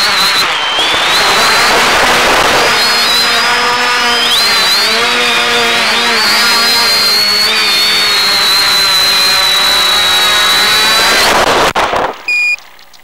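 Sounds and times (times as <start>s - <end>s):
quadcopter motors whining: 0.0s - 11.4s.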